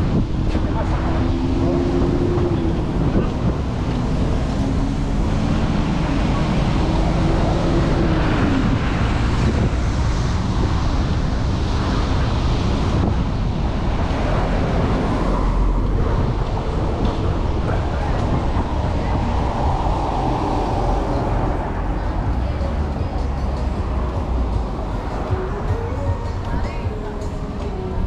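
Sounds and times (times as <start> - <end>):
sea surf rushing: 0.0 - 26.4
passing vehicle engine hum: 0.0 - 28.0
wind buffeting microphone: 0.0 - 28.0.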